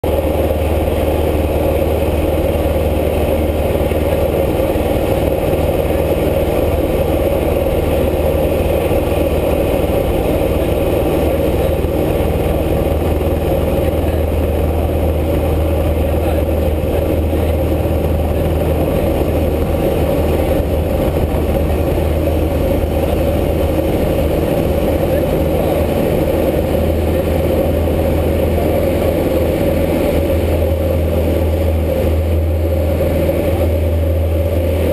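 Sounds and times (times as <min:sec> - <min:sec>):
aircraft engine running: 0:00.0 - 0:34.9.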